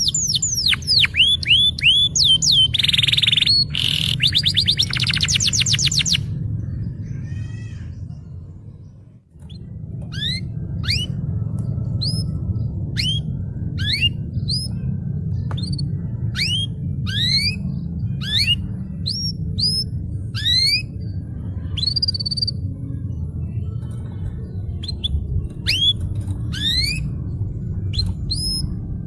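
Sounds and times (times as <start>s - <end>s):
canary singing: 0.0s - 8.4s, 9.4s - 23.2s, 23.8s - 29.0s
steady low hum: 0.0s - 29.0s.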